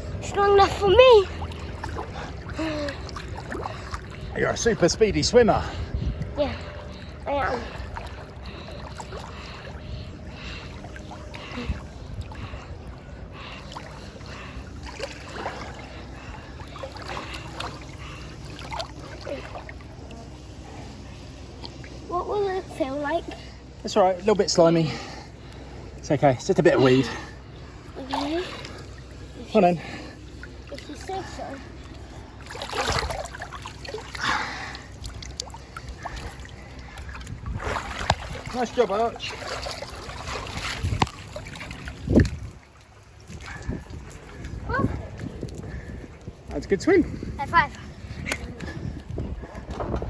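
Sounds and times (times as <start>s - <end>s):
water splashing from swimming: 0.0s - 23.8s, 24.6s - 50.0s
steady low rumble: 0.0s - 50.0s.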